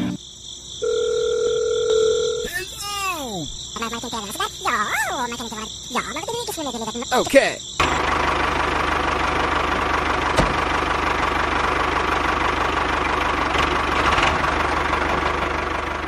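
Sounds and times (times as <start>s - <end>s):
tractor engine idling: 2.5s - 16.0s.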